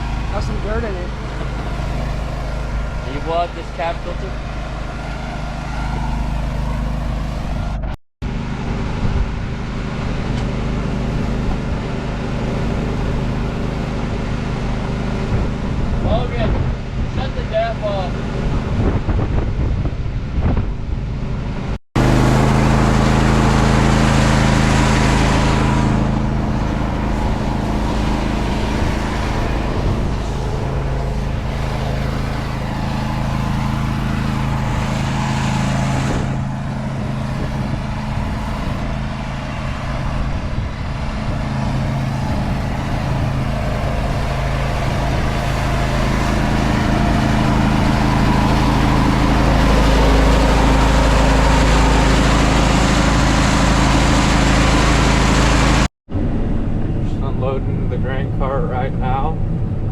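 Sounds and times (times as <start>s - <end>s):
diesel harvest machine running: 0.0s - 59.9s.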